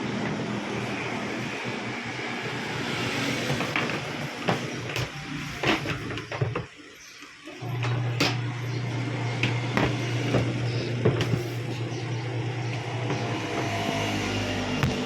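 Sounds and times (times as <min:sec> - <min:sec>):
washing machine motor humming: 0:00.0 - 0:15.0.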